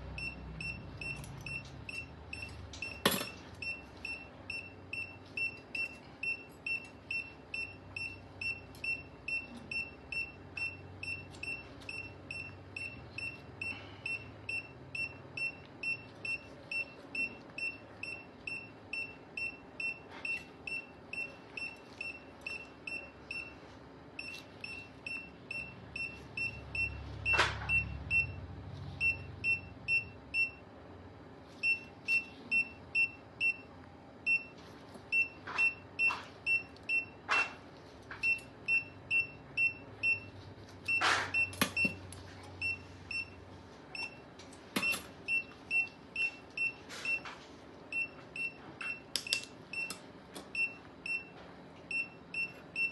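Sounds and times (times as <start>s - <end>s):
patient monitor beeping: 0.1s - 30.7s, 31.6s - 37.6s, 38.2s - 52.9s.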